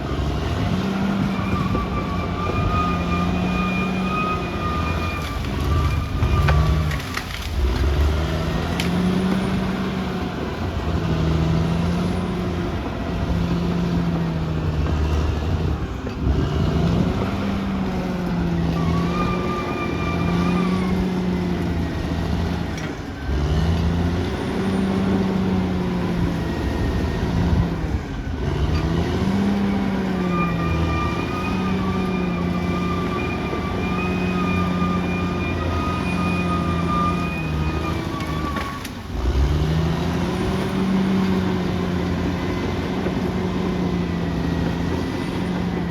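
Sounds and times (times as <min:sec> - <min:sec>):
bulldozer diesel engine under load: 0:00.0 - 0:45.9.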